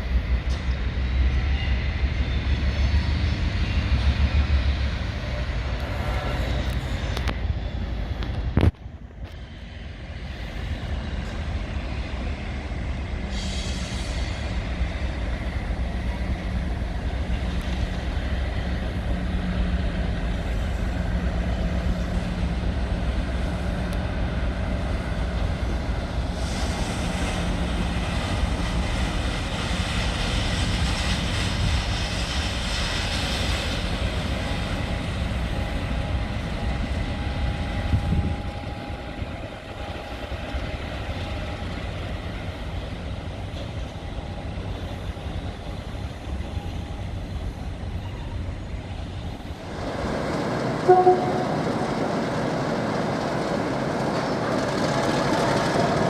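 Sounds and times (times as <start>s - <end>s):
diesel locomotive engines droning: 0.0s - 56.0s.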